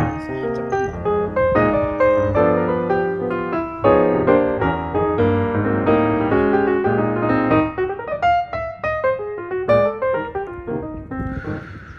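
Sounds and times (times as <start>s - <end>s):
piano music: 0.0s - 11.9s.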